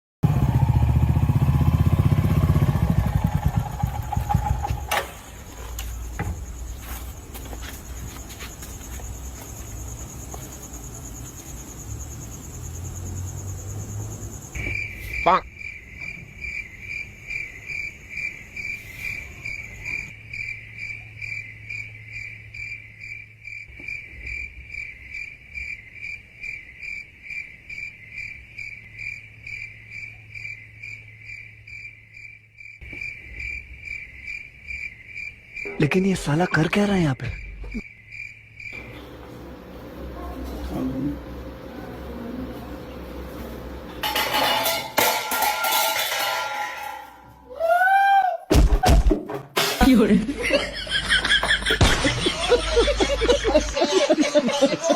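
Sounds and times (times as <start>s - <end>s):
crickets chirping: 0.3s - 48.2s, 49.8s - 54.9s.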